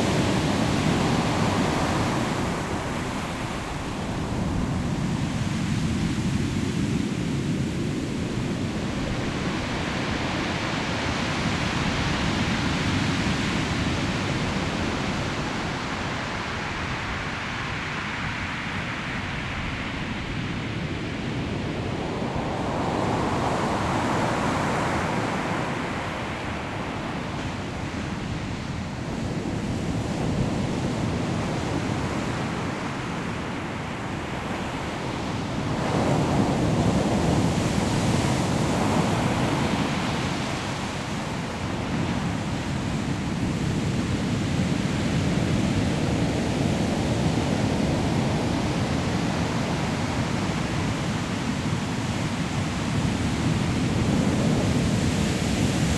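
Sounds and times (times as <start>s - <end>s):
wind: 0.0s - 55.9s.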